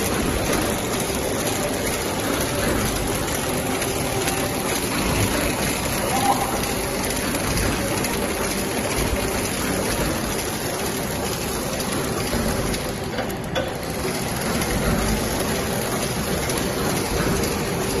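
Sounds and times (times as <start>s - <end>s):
packaging machine running: 0.0s - 18.0s.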